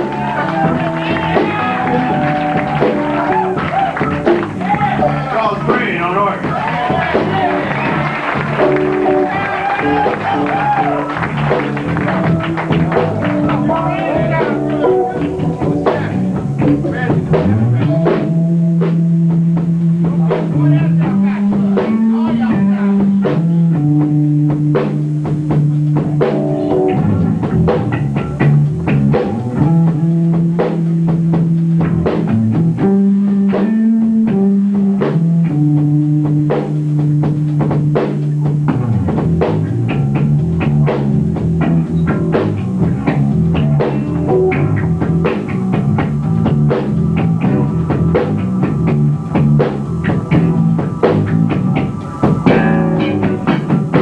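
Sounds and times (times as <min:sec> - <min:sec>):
band music with guitar and drums: 0:00.0 - 0:54.0.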